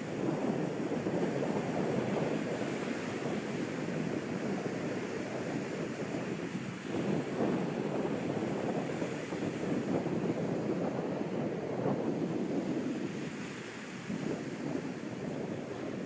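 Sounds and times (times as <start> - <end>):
ocean waves washing ashore: 0.0 - 16.0
wind on microphone: 0.0 - 16.0.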